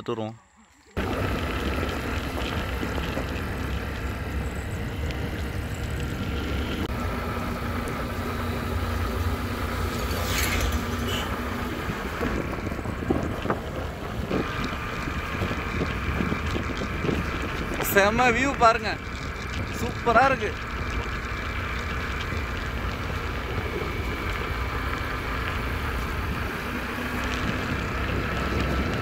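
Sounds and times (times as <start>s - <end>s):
motorcycle engine hum: 0.0s - 29.0s
road noise: 0.0s - 29.0s.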